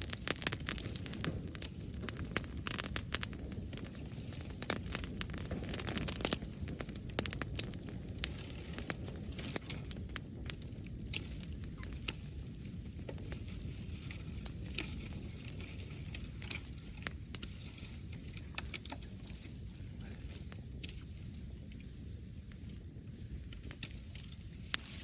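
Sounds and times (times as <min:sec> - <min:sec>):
bonfire crackling: 0:00.0 - 0:25.0
sharp fire pops: 0:00.0 - 0:25.0.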